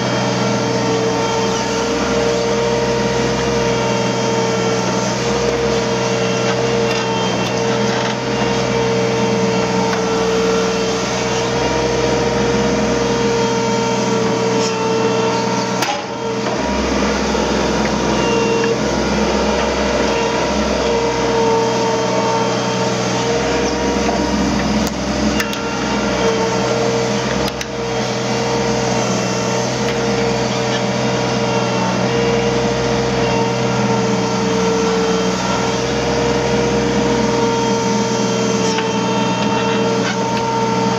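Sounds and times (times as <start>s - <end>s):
excavator engine rumble: 0.0s - 40.9s.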